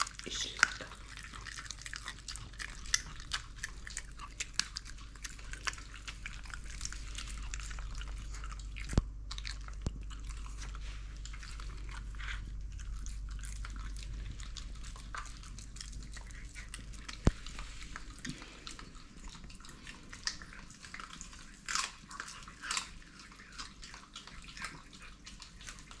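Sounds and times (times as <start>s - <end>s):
dogs chewing bones: 0.0s - 26.0s.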